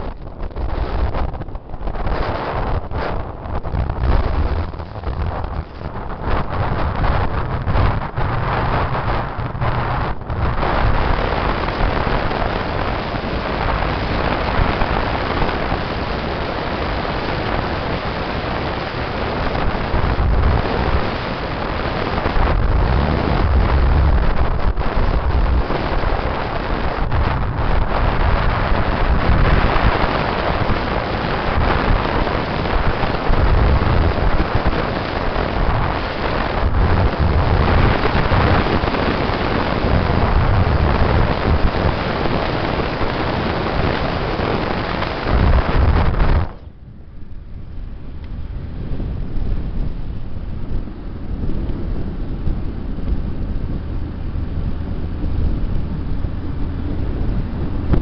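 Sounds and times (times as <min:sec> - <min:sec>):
low rumble: 0:00.0 - 0:17.0, 0:18.6 - 0:58.0
vehicle road noise: 0:00.0 - 0:58.0
wind rushing over microphone: 0:00.0 - 0:58.0.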